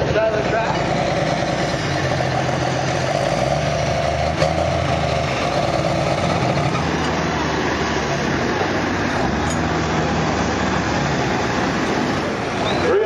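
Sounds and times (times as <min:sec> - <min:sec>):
diesel tractor engine idling: 0:00.0 - 0:13.0
skid steer engine running: 0:00.0 - 0:13.0.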